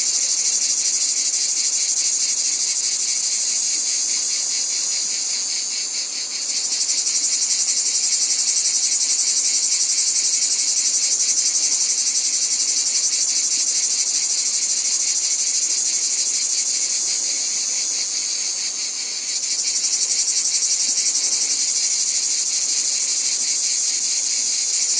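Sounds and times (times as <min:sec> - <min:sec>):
insects trilling: 0:00.0 - 0:24.9.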